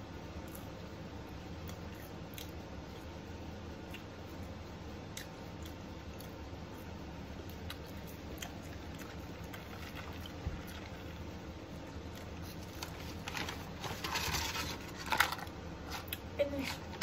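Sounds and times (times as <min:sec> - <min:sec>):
steady low hum: 0:00.0 - 0:17.0
chewing french fries: 0:00.4 - 0:17.0.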